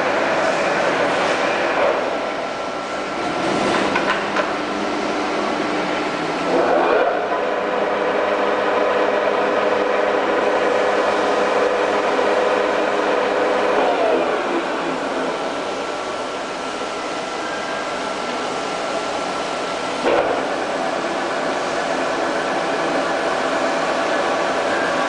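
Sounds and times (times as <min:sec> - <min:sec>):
lathe whirring with gear whine: 0:00.0 - 0:25.0.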